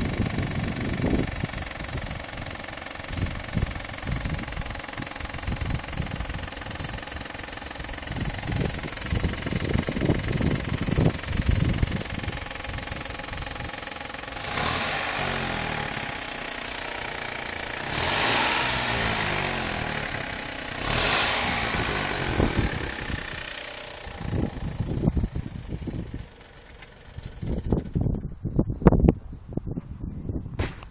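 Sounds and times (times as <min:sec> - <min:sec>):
car engine idling and revving: 0:00.0 - 0:28.4.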